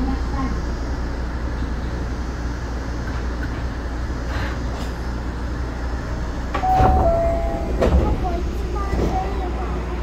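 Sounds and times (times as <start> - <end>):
monorail train rumble: 0.0 - 10.0.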